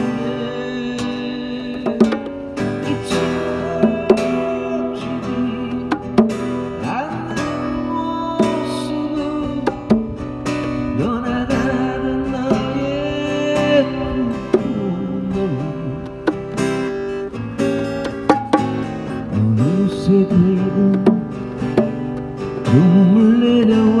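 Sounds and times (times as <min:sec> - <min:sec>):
bending lead guitar melody: 0:00.0 - 0:24.0
strummed acoustic guitar: 0:00.0 - 0:24.0.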